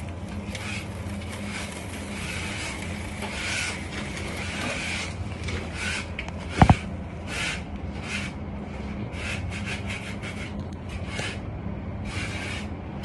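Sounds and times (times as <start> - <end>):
hand tool scraping mortar: 0.0 - 11.4, 12.0 - 12.7.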